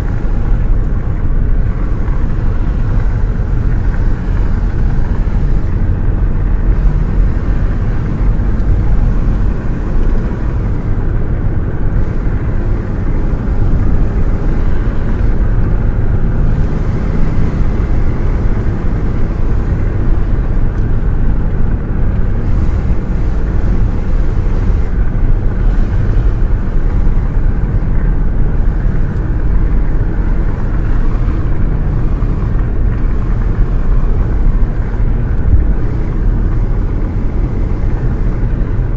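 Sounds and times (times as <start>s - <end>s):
car running noise: 0.0s - 38.9s.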